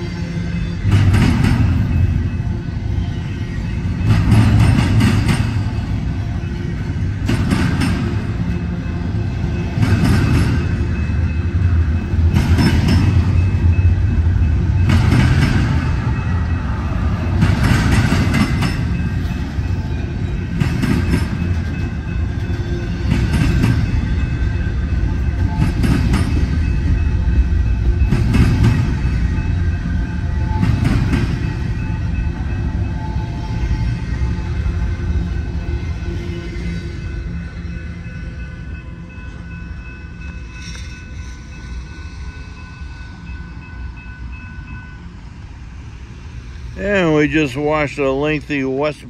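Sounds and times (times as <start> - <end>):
freight train rumble: 0.0 - 49.0.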